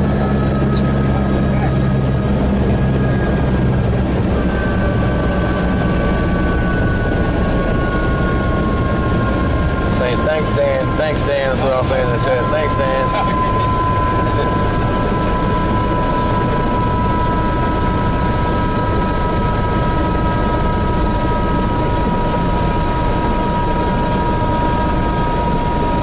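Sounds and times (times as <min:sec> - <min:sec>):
helicopter engine and rotor rumble: 0:00.0 - 0:26.0
high even whine: 0:00.0 - 0:26.0.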